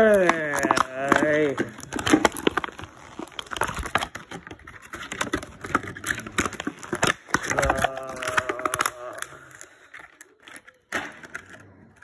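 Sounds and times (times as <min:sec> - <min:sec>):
plastic toy parts clicking: 0:00.0 - 0:12.0.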